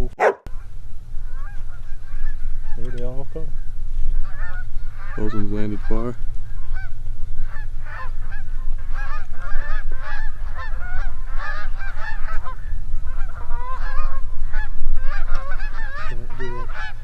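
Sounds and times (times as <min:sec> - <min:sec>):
geese honking: 0:00.0 - 0:17.0
steady low rumble: 0:00.0 - 0:17.0.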